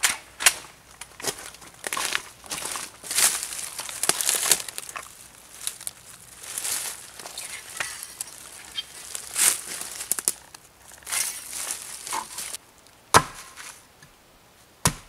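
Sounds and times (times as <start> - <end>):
dry leaves rustling and crackling: 0.0 - 13.8.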